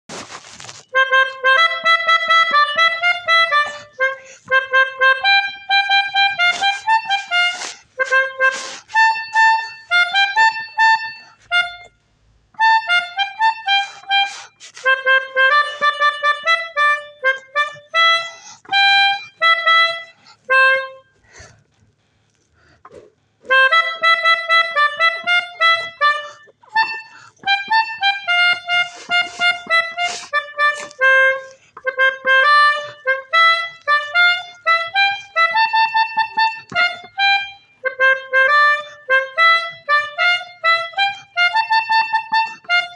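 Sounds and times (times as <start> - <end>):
melodica playing a melody: 0.1 - 42.9.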